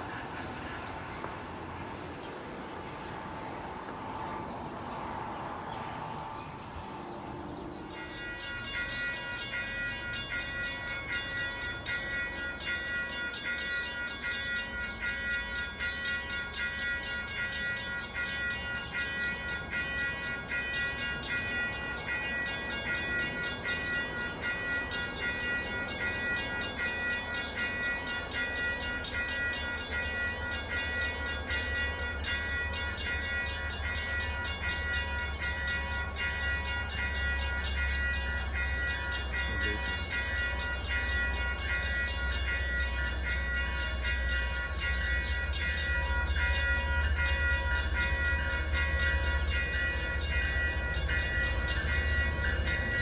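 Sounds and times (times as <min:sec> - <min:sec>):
railway warning bell ringing: 0:00.0 - 0:53.0.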